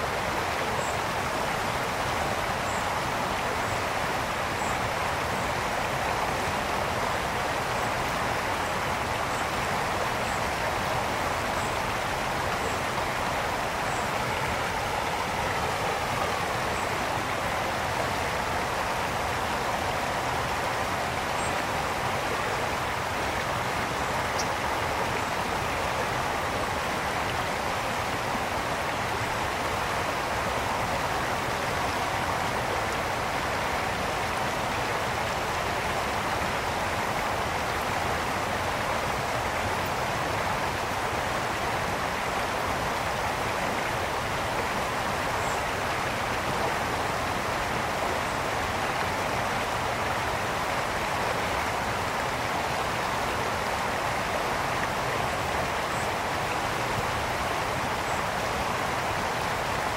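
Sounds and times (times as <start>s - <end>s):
brook flowing over rocks: 0.0s - 59.9s.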